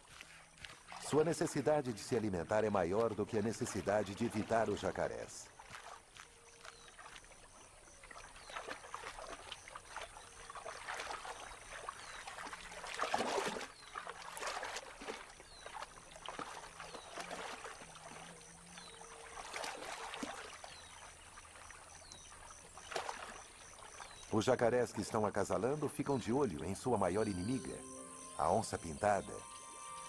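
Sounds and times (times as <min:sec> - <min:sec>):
animal splashing in muddy water: 0:00.0 - 0:26.9.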